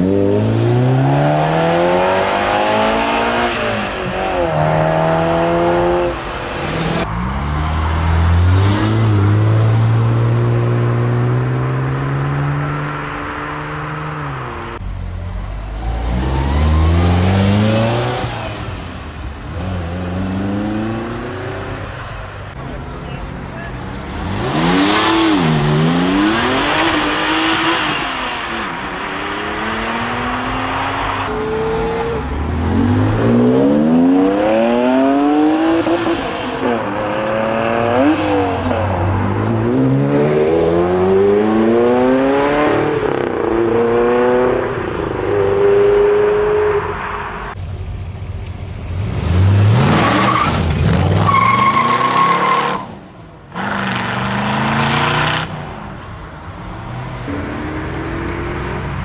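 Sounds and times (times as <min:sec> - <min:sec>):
car engines accelerating hard: 0:00.0 - 0:59.0.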